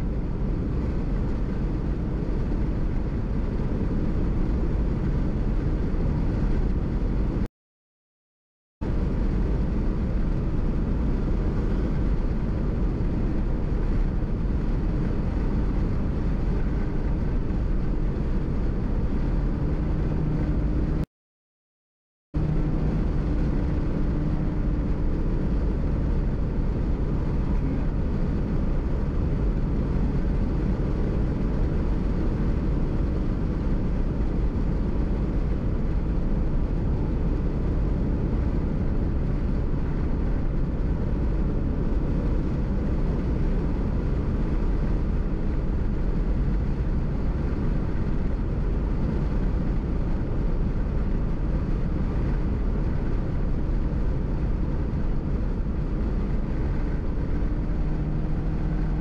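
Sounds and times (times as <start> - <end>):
car road and engine rumble: 0.0 - 7.5, 8.8 - 21.1, 22.4 - 59.0.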